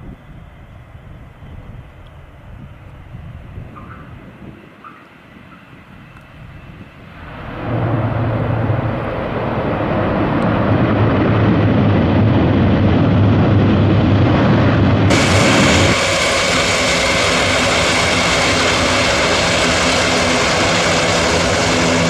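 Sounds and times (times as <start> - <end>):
turboprop engines humming: 0.0 - 22.0.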